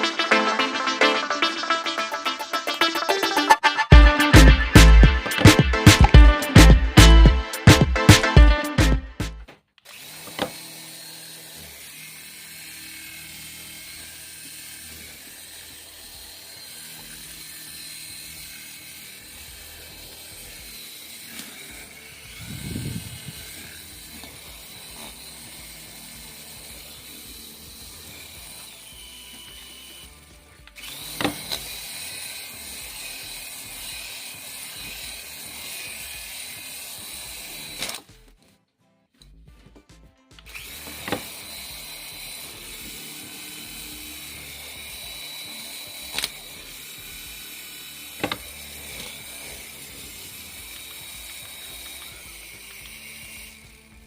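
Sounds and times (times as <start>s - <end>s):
toy electric motor whirring: 2.2s - 8.8s, 9.4s - 38.4s, 40.3s - 54.0s.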